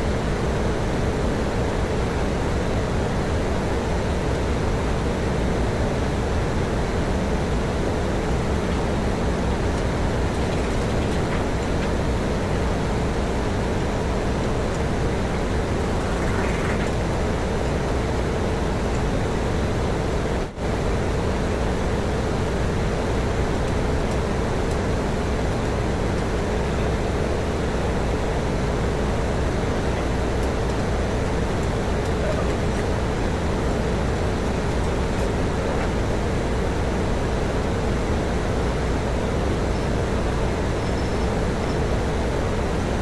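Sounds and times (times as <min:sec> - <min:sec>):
engine room machinery drone: 0:00.0 - 0:43.0.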